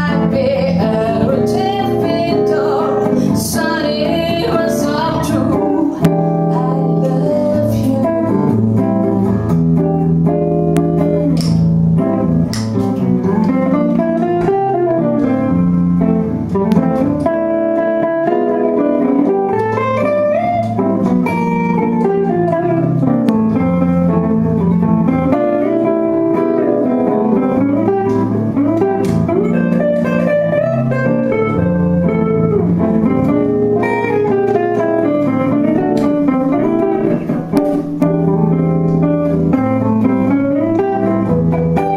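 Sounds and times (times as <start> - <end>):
bass line: 0.0 - 41.9
guitar: 0.0 - 41.9
live band playing: 0.0 - 41.9.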